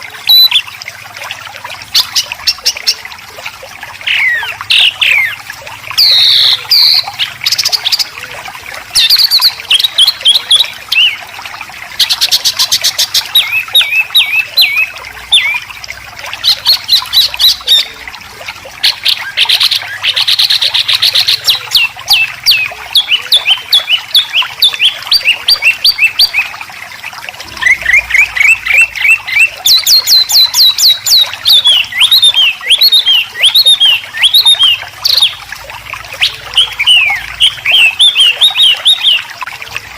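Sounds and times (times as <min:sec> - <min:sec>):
bird chirps and trills: 0:00.0 - 0:03.1, 0:03.8 - 0:18.1, 0:18.8 - 0:26.7, 0:27.4 - 0:35.5, 0:36.1 - 0:39.9.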